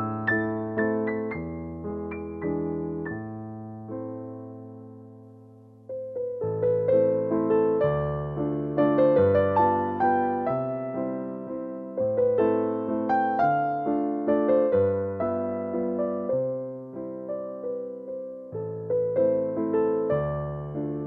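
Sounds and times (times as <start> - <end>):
slow gentle piano melody: 0.0 - 21.0.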